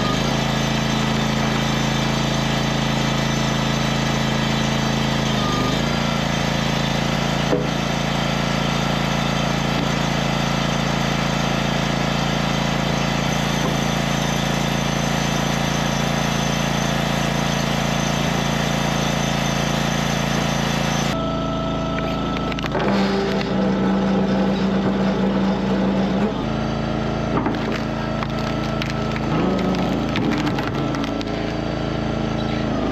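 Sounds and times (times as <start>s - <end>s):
log splitter engine running: 0.0s - 32.9s.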